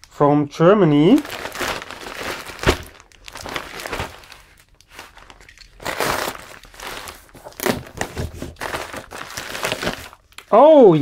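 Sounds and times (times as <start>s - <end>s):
plastic mailer crinkling: 1.0s - 10.6s.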